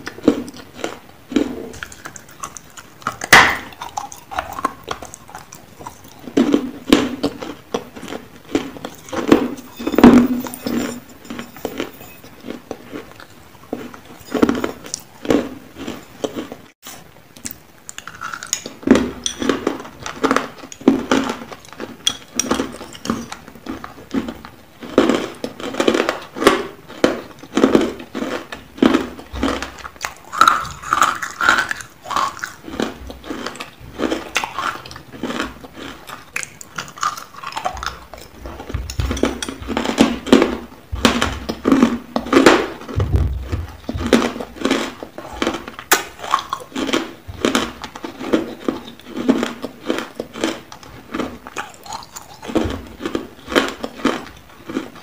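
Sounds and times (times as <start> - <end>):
ice being chewed: 0.0 - 16.8, 17.4 - 55.0.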